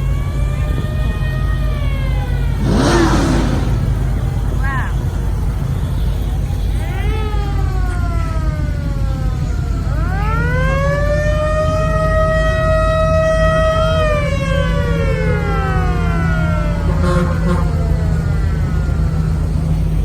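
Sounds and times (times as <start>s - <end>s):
low rumble of engines: 0.0s - 20.0s.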